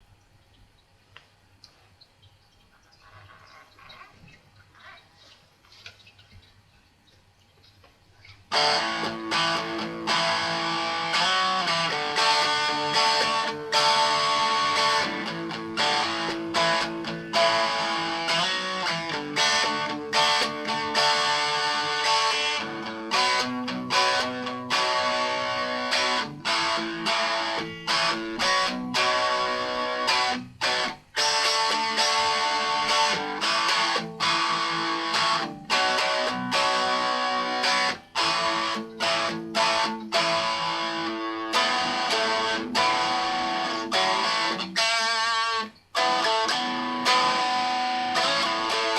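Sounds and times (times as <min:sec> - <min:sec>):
guitar chords strummed: 0:08.5 - 0:48.9.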